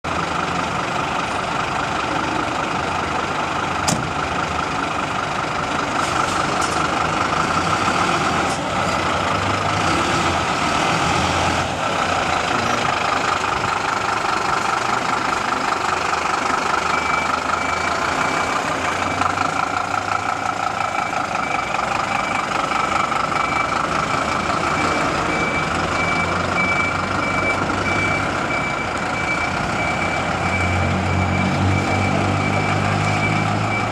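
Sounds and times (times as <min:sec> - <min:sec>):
fire engine running: 0:00.0 - 0:33.9.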